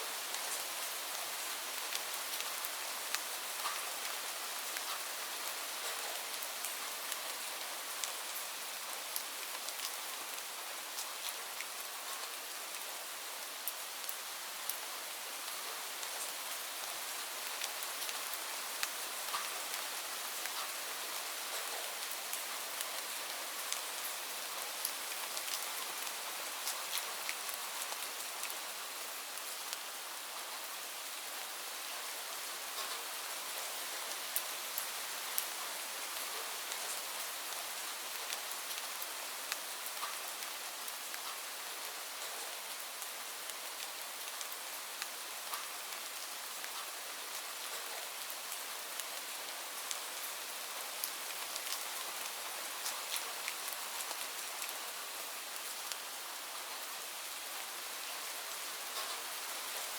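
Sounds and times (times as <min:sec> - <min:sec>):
steady rain hiss: 0:00.0 - 0:59.9
raindrops ticking on a surface: 0:00.2 - 0:59.9.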